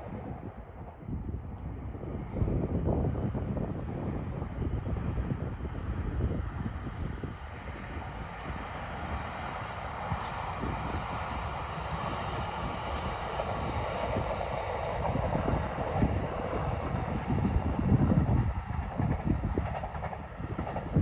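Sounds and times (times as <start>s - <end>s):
distant train rumble: 0.0s - 21.0s
wind buffeting microphone: 0.0s - 21.0s.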